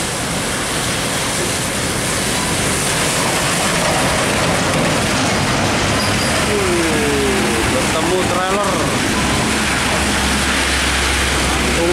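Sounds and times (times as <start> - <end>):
heavy rain and road spray: 0.0 - 11.9
truck diesel engine: 0.0 - 11.9.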